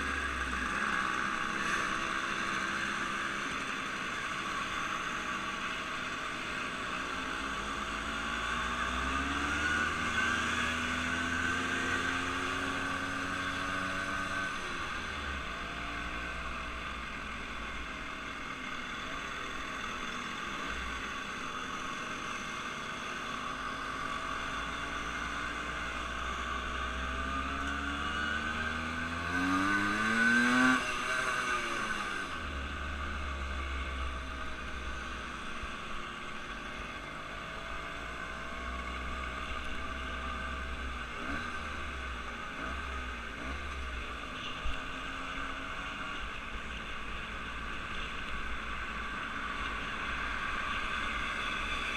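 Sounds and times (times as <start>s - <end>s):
vehicle engines revving: 0.0s - 51.9s.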